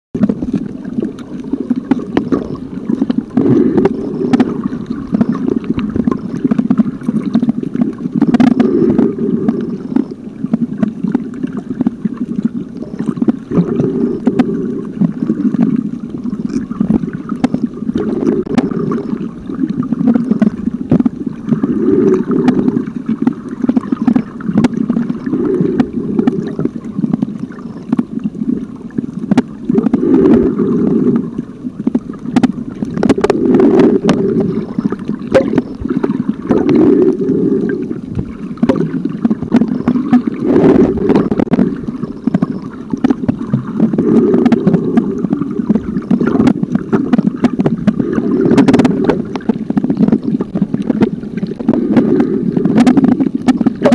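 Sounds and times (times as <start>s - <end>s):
muffled underwater water rumble: 0.1s - 53.9s.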